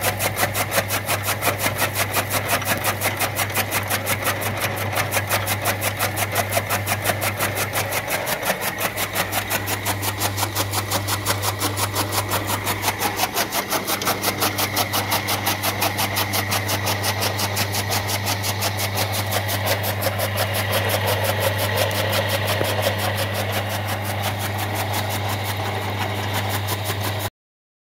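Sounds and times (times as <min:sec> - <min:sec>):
chaff cutter chopping grass: 0:00.0 - 0:27.3
electric motor hum: 0:00.0 - 0:27.3.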